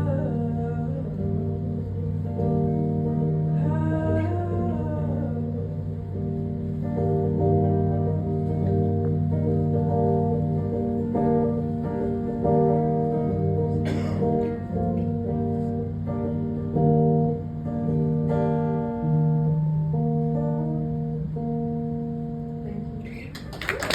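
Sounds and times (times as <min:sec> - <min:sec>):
acoustic guitar chords: 0:00.0 - 0:23.5.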